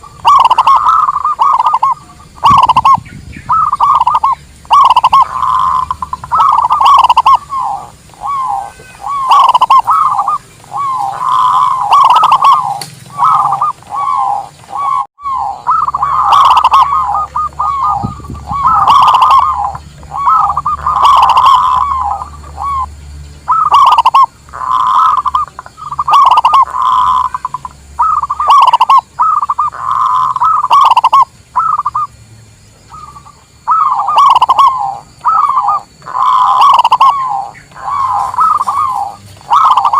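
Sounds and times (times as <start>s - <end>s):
doves cooing in trilling phrases: 0.0s - 32.2s, 32.8s - 39.9s.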